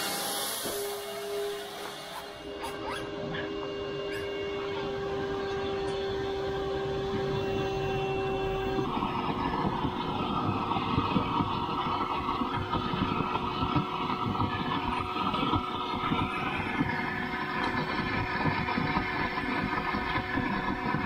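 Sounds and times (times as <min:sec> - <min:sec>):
shop vac motor whining: 0:00.0 - 0:21.0.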